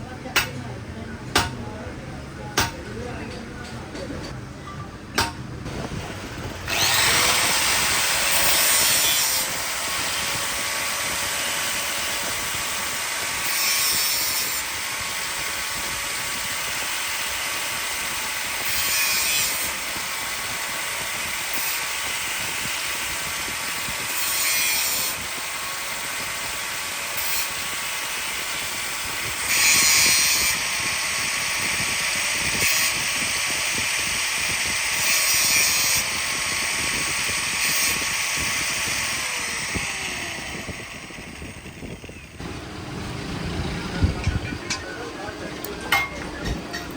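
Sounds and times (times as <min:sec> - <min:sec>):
power tool running: 0:05.6 - 0:46.9.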